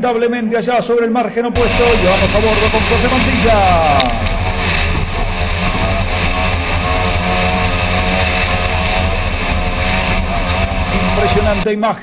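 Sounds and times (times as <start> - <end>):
water spray: 1.6 - 11.6
wind noise: 1.6 - 11.6
outboard engine running hard: 1.6 - 11.7.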